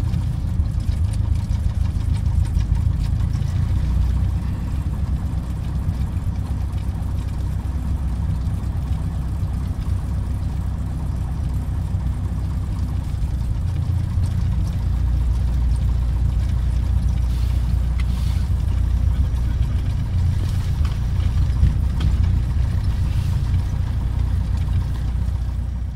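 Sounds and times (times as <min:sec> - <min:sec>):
light aircraft engine droning: 0:00.0 - 0:25.9.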